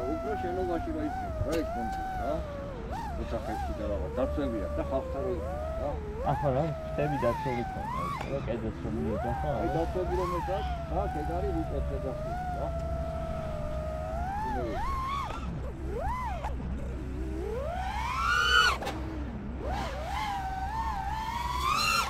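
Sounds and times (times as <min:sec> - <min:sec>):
drone motors whining: 0:00.0 - 0:22.0
steady low hum: 0:00.0 - 0:22.0.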